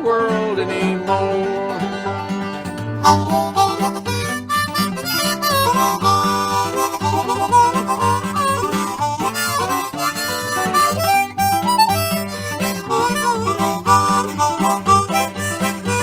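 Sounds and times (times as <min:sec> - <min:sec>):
guitar: 0:00.0 - 0:16.0
harmonica melody: 0:00.7 - 0:16.0.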